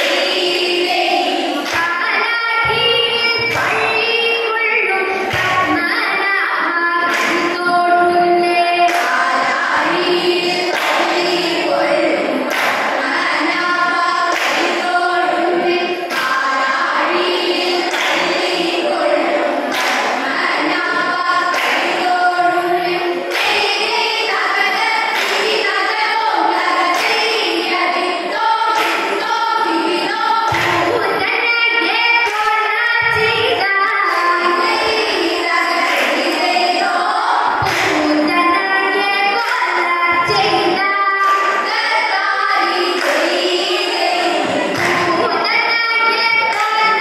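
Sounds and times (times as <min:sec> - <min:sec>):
hand claps keeping time: 0:00.0 - 0:04.2, 0:04.9 - 0:06.0, 0:06.6 - 0:38.6, 0:39.3 - 0:47.0
women singing in unison: 0:00.0 - 0:47.0.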